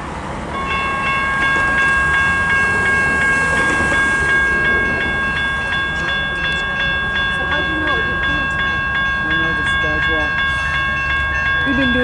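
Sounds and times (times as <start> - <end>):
freight train rumble: 0.0 - 12.0
railroad crossing bell ringing: 0.0 - 12.0.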